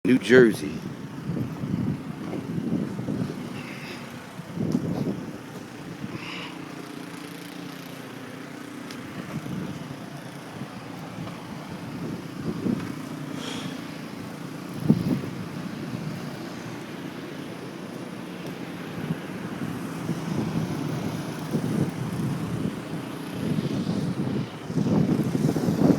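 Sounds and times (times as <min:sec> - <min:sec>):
wind buffeting microphone: 0:00.1 - 0:06.4, 0:09.0 - 0:17.1, 0:18.8 - 0:25.9.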